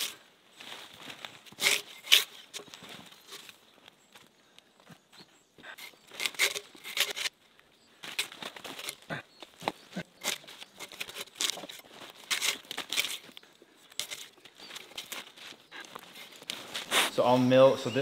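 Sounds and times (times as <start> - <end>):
leaves rustling and twigs crackling: 0.0 - 18.0.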